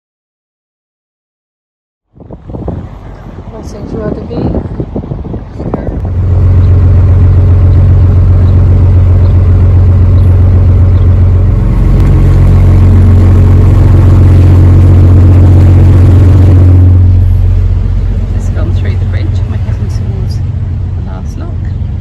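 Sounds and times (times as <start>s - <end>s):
diesel engine running: 2.1s - 22.0s.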